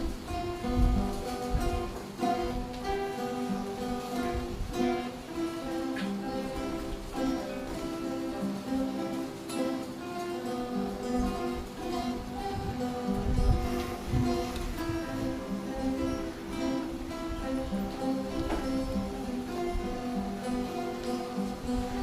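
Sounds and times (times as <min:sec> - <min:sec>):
guitar ensemble playing: 0:00.0 - 0:22.0.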